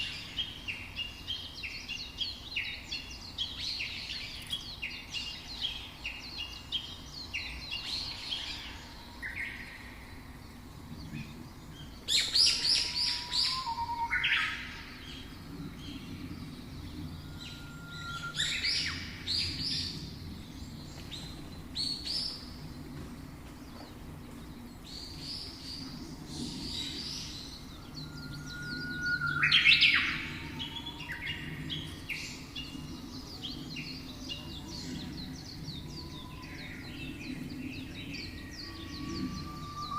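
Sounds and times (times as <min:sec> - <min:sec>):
faint low background noise: 0:00.0 - 0:39.9
songbirds singing and chirping: 0:00.0 - 0:39.9.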